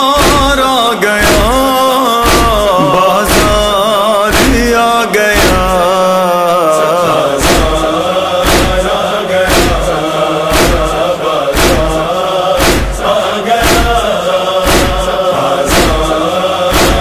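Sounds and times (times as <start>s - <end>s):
chorus chanting wordlessly: 0.0s - 17.0s
heavy beat: 0.0s - 17.0s.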